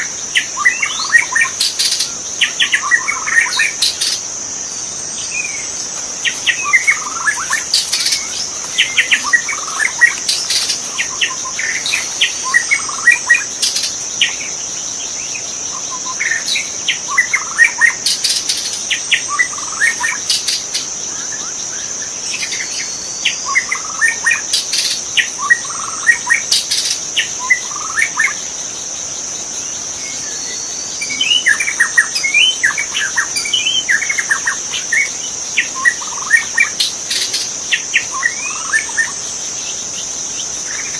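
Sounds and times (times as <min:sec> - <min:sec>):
high-pitched insect drone: 0:00.0 - 0:40.9.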